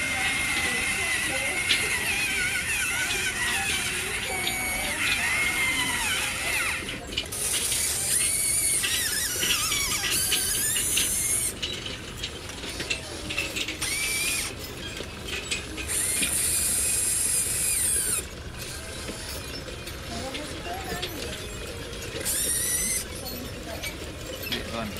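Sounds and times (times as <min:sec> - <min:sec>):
toy gear motors whining: 0:00.0 - 0:24.9.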